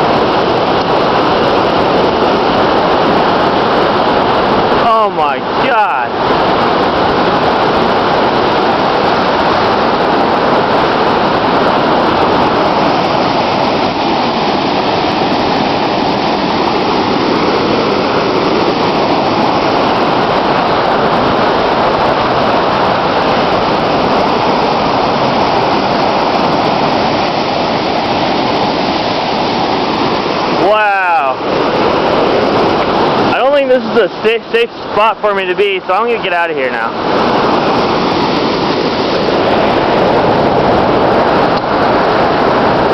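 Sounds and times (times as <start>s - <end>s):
water rushing through spillway: 0.0s - 42.9s.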